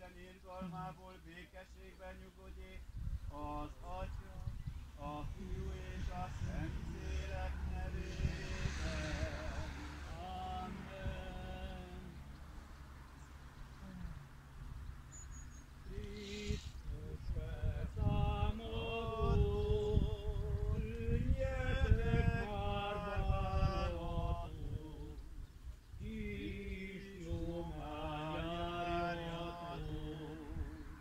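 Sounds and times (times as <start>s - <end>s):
person chanting in long notes: 0.0s - 12.4s, 15.9s - 25.4s, 26.0s - 31.0s
wind rumble on microphone: 2.3s - 31.0s.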